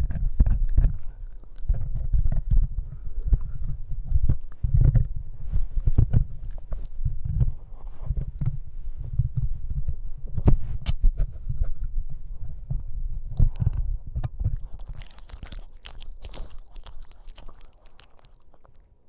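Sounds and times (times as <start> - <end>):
puppy chewing on microphone: 0.0 - 19.0.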